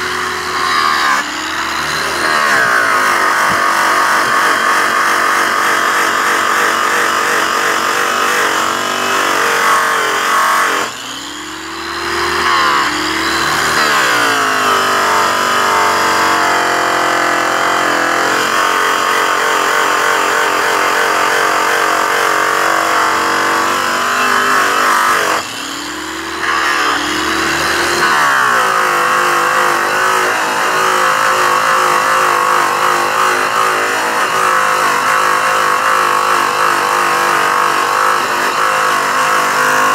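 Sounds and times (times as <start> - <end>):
electric rotary polisher running: 0.0 - 39.9.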